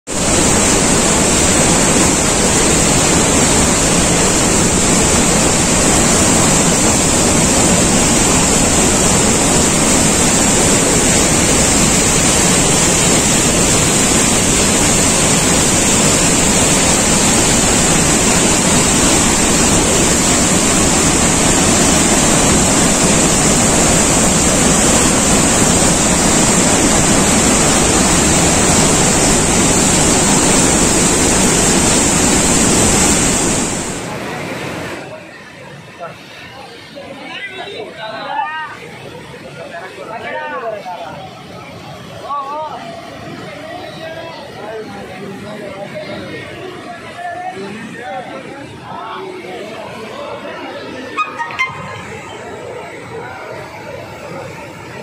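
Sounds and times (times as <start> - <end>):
rushing water from dam spillway: 0.1 - 55.0.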